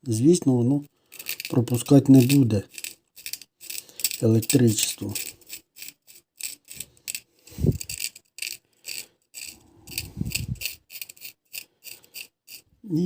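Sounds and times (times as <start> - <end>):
knife scraping graphite washers: 1.0 - 12.7.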